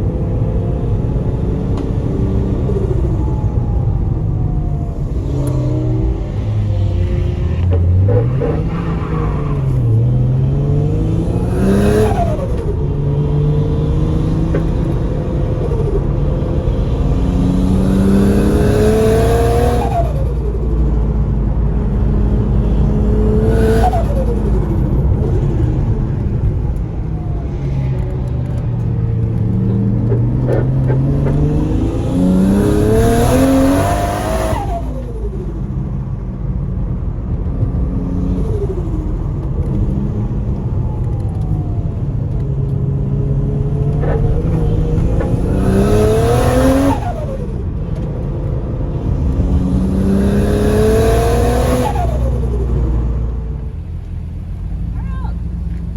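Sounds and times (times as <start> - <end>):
car engine accelerating through gears: 0.0 - 55.9.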